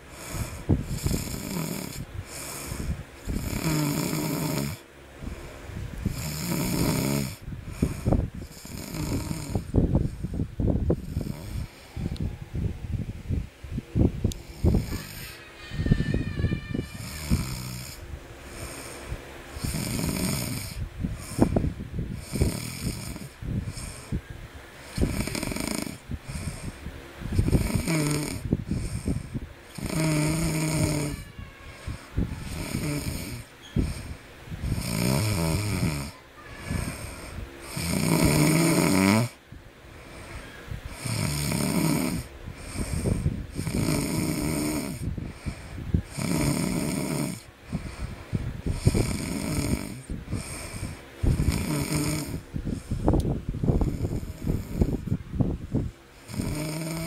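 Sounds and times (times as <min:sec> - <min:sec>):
baby snoring: 0:00.0 - 0:04.8, 0:06.0 - 0:12.2, 0:14.4 - 0:24.2, 0:24.8 - 0:39.4, 0:40.0 - 0:55.2, 0:56.2 - 0:57.0.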